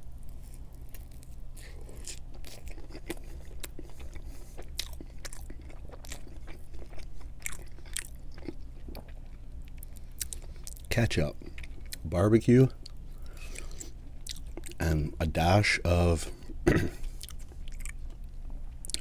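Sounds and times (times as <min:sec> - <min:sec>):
person chewing food: 0:00.1 - 0:12.2, 0:12.8 - 0:14.8, 0:16.3 - 0:19.0.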